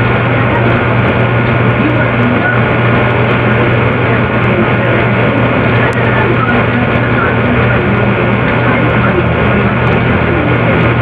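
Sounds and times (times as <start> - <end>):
low drone with hiss: 0.0 - 11.0.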